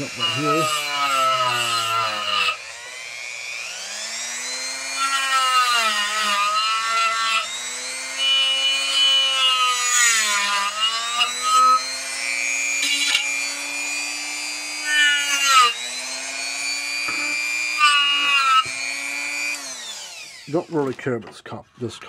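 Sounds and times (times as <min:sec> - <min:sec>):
rotary tool whining: 0:00.0 - 0:21.0.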